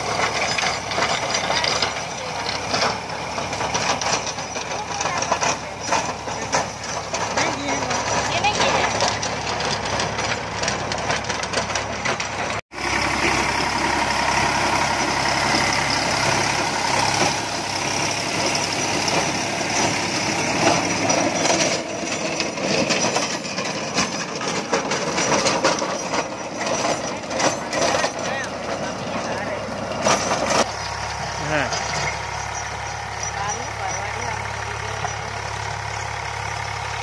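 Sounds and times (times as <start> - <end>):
rotavator churning soil: 0.0 - 37.0
tractor diesel engine under load: 0.0 - 37.0.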